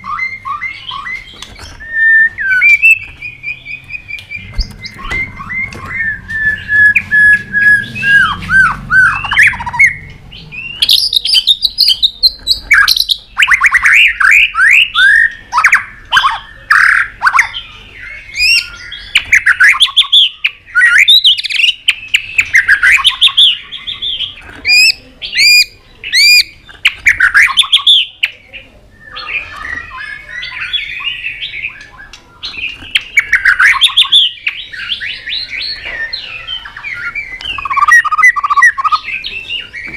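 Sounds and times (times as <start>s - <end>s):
songbird singing whistled song: 0.0s - 39.9s.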